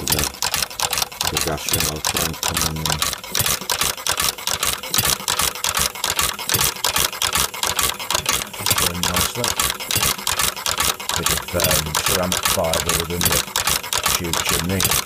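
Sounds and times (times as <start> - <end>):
gas engine clicking: 0.0 - 15.0.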